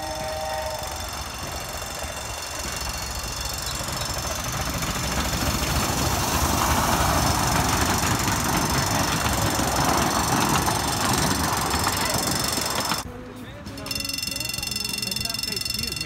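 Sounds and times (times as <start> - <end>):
miniature steam train clatter: 0.0 - 13.0, 13.7 - 16.0.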